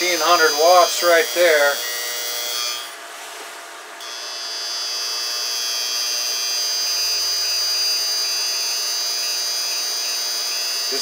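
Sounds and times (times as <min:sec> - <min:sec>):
hot plate high-pitched buzz: 0:00.0 - 0:03.0, 0:04.0 - 0:11.0.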